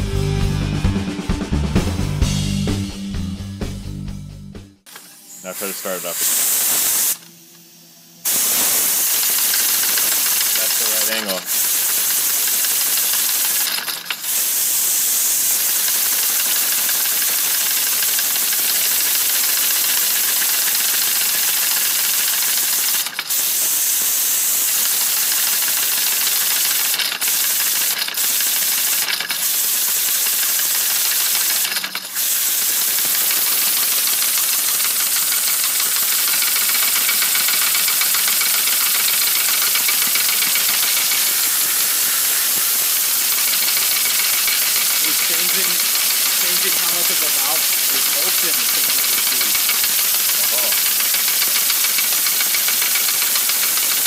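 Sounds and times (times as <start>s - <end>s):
compressed air hissing: 5.4s - 7.2s, 7.8s - 54.0s.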